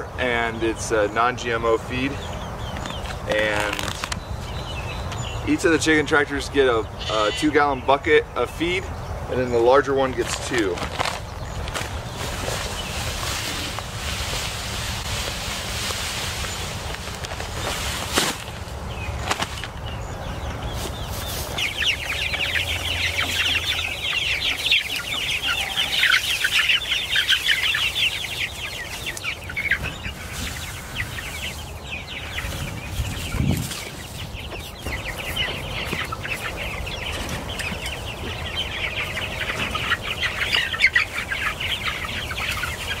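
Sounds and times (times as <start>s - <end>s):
chickens peeping and clucking: 0.0s - 43.0s.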